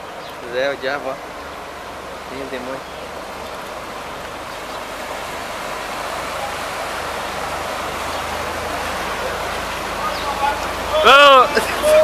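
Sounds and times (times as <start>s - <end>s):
bus splashing through floodwater: 0.0s - 12.0s.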